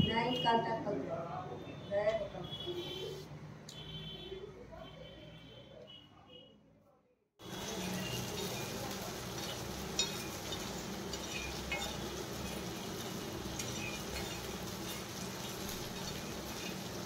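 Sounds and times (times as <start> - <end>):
steady background noise: 0.0 - 6.5, 7.4 - 17.0.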